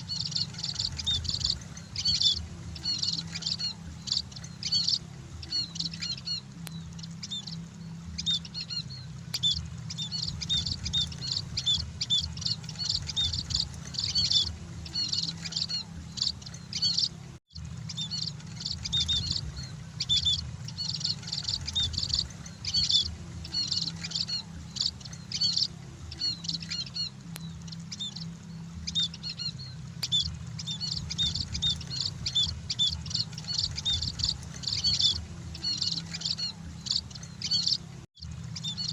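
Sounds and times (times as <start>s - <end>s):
flock of birds chirping: 0.0s - 38.9s
steady low hum: 0.0s - 38.9s.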